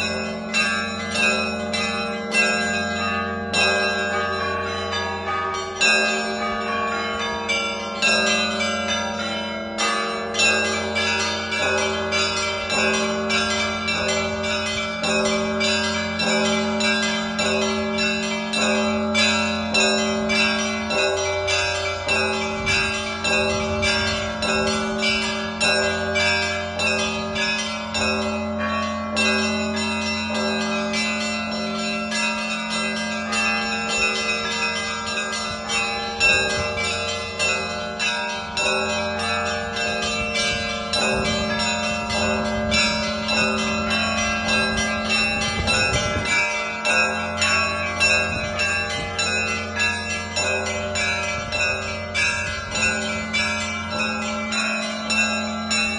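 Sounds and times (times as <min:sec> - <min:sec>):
hum of larger bells: 0:00.0 - 0:55.9
small bells struck rhythmically: 0:00.0 - 0:55.9.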